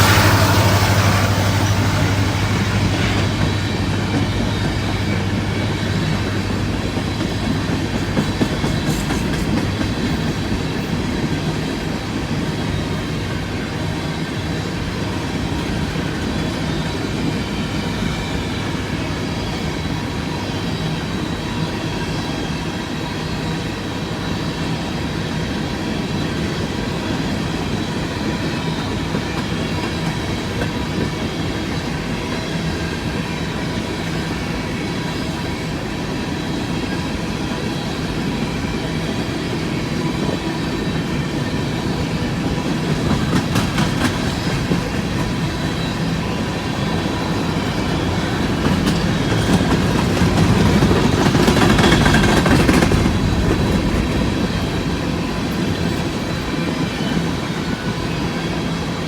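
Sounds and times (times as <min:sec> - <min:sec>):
train rumble and wheel-on-rail noise: 0:00.0 - 0:59.0.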